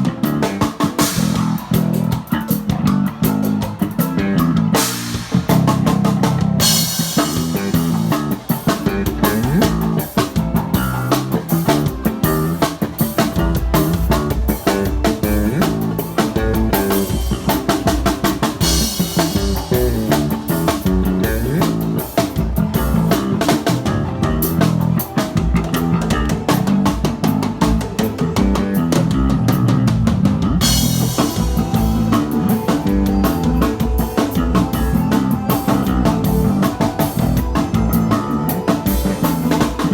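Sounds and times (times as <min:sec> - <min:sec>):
band playing: 0:00.0 - 0:39.9.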